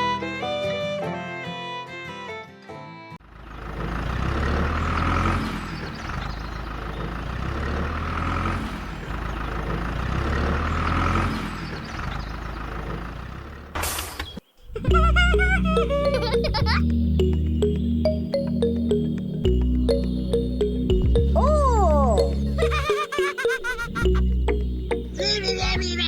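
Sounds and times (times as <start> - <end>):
truck engine running: 3.2 - 13.9, 14.9 - 26.0.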